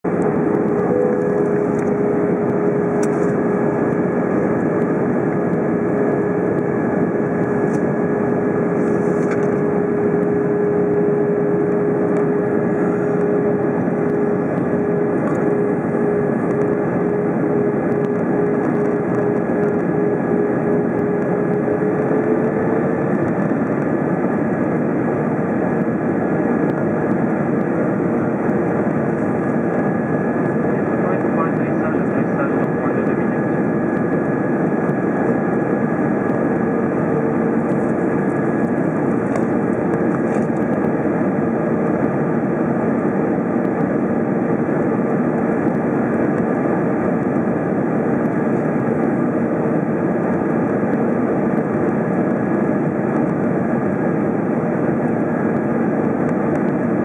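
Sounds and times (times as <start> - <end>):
jet engine and airflow noise in cabin: 0.0 - 57.0.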